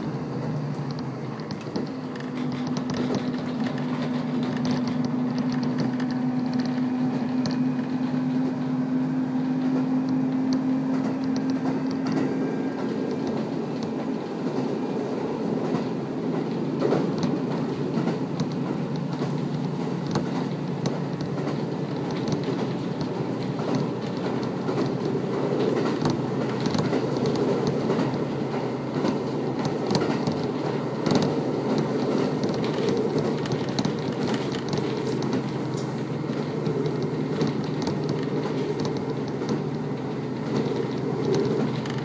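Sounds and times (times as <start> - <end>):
low engine hum: 0.0 - 42.0
rumble of wheels on rail: 0.0 - 42.0
sharp clicks from track: 0.5 - 8.7, 9.5 - 14.8, 15.6 - 42.0.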